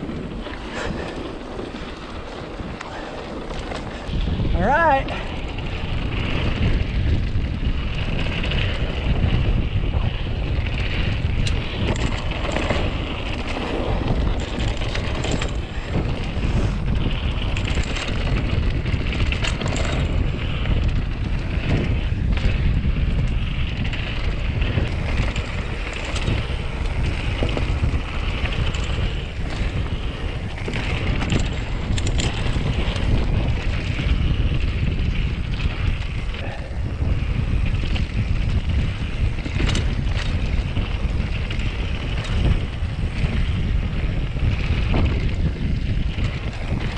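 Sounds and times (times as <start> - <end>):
bike clicking and rattling: 0.0 - 46.9
tyres rolling on dirt: 0.0 - 46.9
wind rushing over microphone: 0.0 - 46.9.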